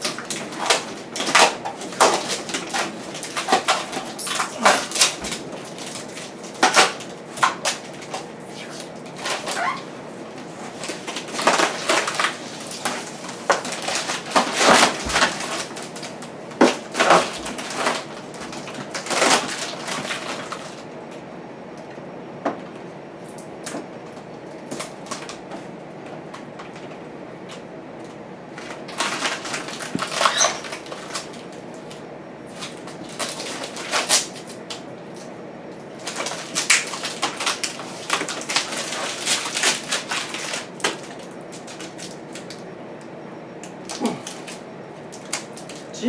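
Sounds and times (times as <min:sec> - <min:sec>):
plastic film peeling and crackling: 0:00.0 - 0:20.9, 0:28.5 - 0:42.6, 0:43.6 - 0:45.9.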